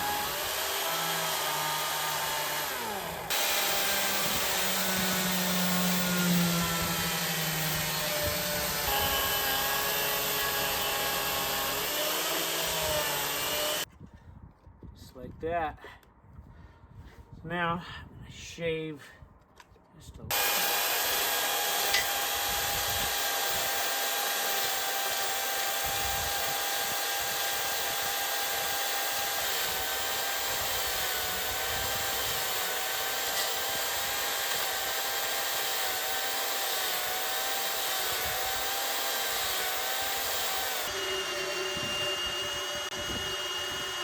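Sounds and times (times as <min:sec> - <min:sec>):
power tool shaving wood: 0:00.0 - 0:13.9, 0:20.3 - 0:44.0.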